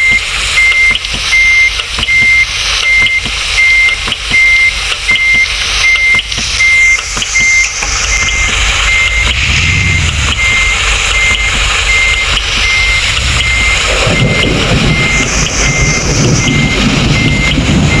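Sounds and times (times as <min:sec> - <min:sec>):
truck engine running: 0:00.0 - 0:18.0
truck reversing alarm beeping: 0:00.0 - 0:18.0.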